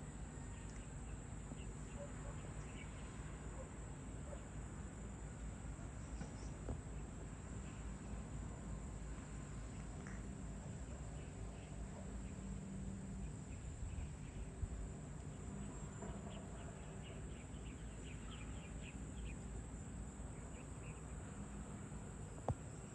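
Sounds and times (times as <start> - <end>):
low background rumble: 0.0 - 22.9.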